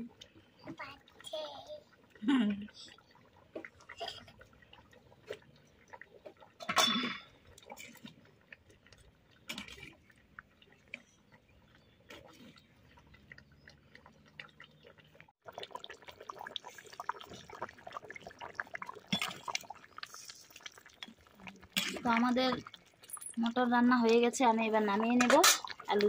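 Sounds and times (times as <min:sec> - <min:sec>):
curry bubbling and popping: 0:00.0 - 0:26.0.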